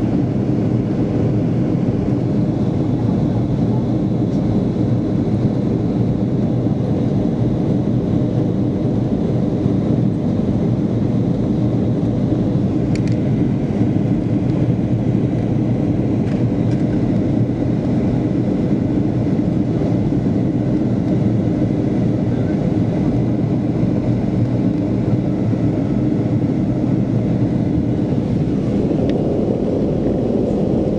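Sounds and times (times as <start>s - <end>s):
jet airliner cabin noise: 0.0s - 30.9s.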